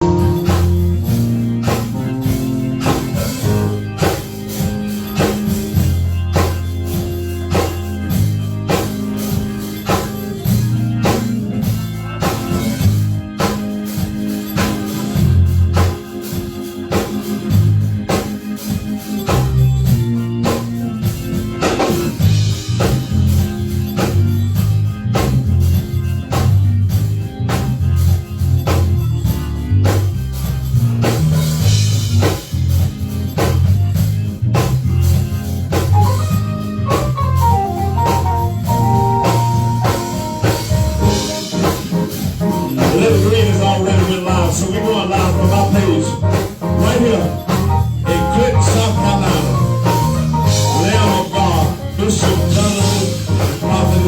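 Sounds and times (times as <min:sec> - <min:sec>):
band playing upbeat instrumental: 0:00.0 - 0:54.0
drums keeping steady beat: 0:00.0 - 0:54.0.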